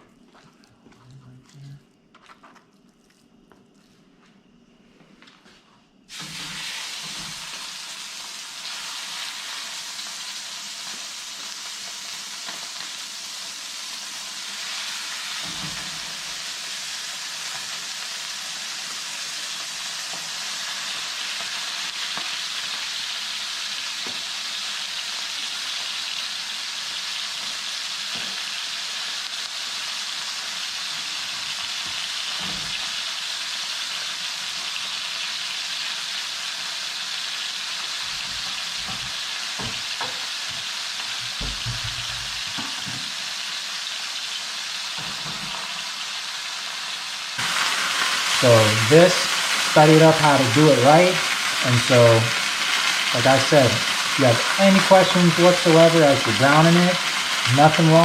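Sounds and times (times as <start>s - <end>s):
meat sizzling in hot oil: 6.1s - 58.0s.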